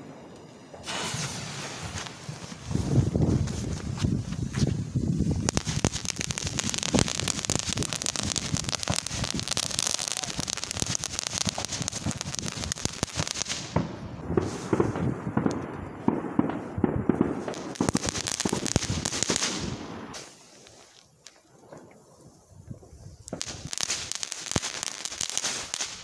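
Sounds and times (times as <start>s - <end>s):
firework crackling with hiss: 0.0s - 21.4s, 23.0s - 26.0s
firework rapid pops: 0.7s - 20.8s, 23.2s - 26.0s.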